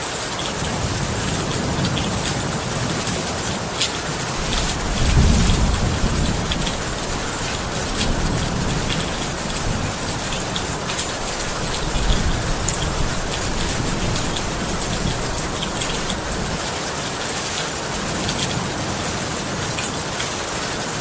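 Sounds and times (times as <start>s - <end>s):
heavy rain: 0.0s - 21.0s
raindrops ticking on surface: 0.0s - 21.0s.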